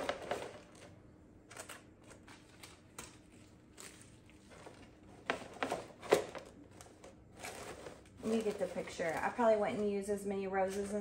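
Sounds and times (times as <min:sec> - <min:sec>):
artificial flower stems rustling: 0:00.0 - 0:11.0.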